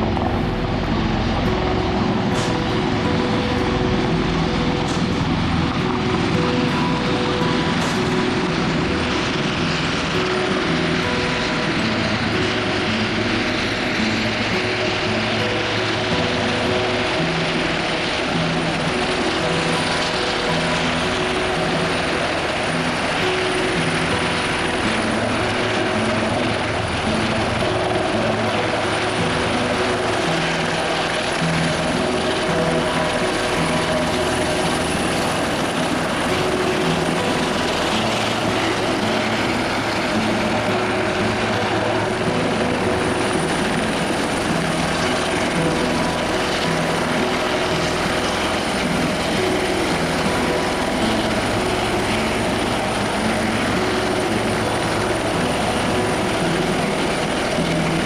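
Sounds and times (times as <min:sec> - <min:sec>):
helicopter engine and rotor: 0:00.0 - 0:58.0
high-pitched whine: 0:00.0 - 0:58.0.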